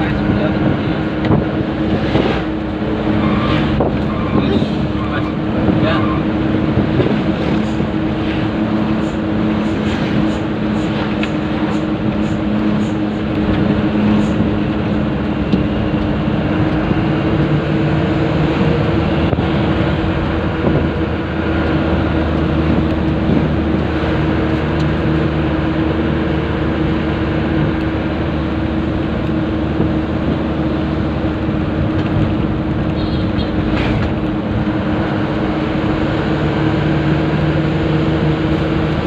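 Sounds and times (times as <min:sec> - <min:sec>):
truck diesel engine droning: 0:00.0 - 0:39.0.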